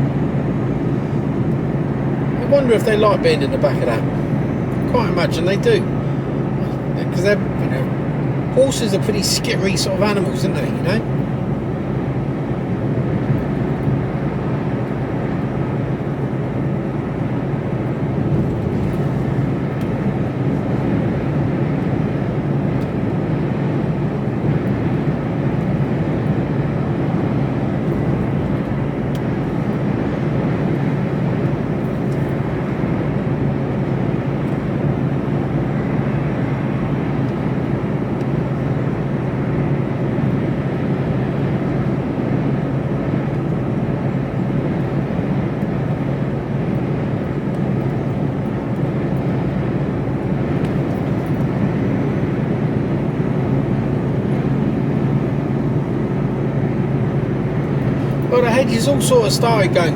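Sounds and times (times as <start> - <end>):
lorry engine drone: 0.0 - 59.9
road and tyre noise: 0.0 - 59.9.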